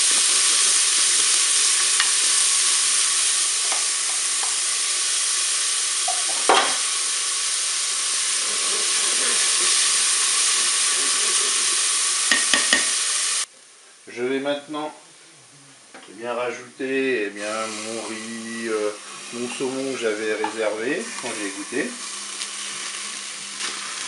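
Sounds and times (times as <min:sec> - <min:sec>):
onion sizzling in hot oil: 0:00.0 - 0:13.5, 0:17.2 - 0:24.0.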